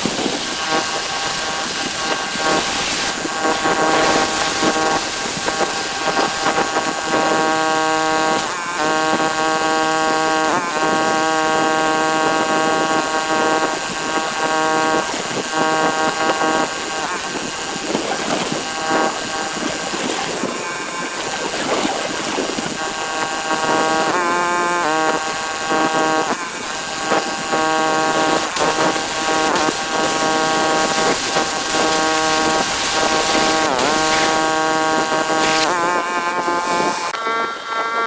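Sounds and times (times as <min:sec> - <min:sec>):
high-pressure water spray hiss: 0:00.0 - 0:08.5, 0:12.2 - 0:37.1
pressure washer engine running: 0:00.0 - 0:37.2.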